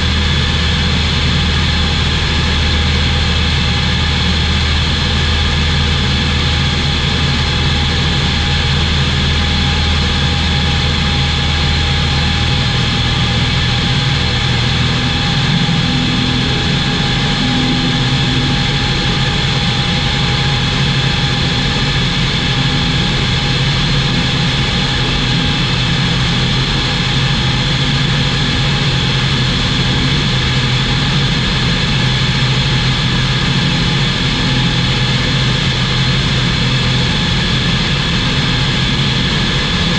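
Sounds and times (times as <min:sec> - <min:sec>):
deep hum: 0:00.0 - 0:39.9
light aircraft engine droning: 0:00.0 - 0:39.9.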